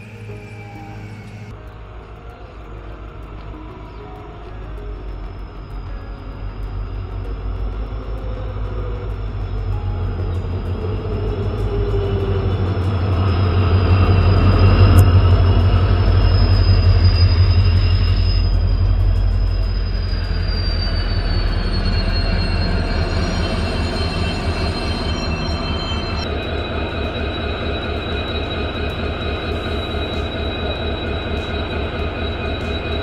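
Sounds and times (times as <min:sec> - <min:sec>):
high-pitched wheel squeal: 0:00.0 - 0:01.6, 0:05.3 - 0:33.0
diesel locomotive engine rumble: 0:00.0 - 0:33.0
passenger coaches rolling by: 0:00.0 - 0:33.0.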